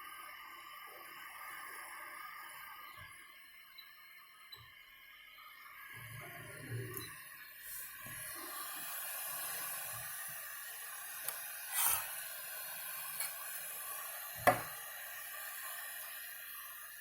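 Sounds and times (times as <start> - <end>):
cooling fans hissing: 0.0 - 17.0.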